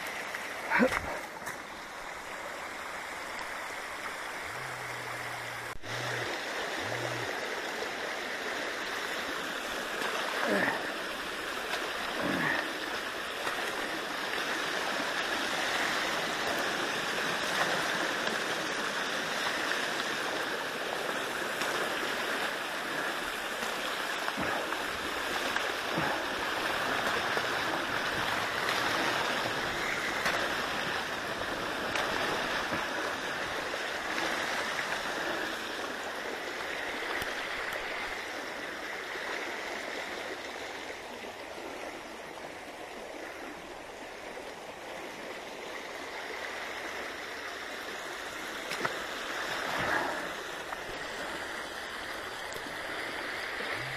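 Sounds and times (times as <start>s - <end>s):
cascade splashing and gurgling: 0.0s - 42.0s, 42.8s - 53.9s
water rushing over dam: 0.0s - 53.9s.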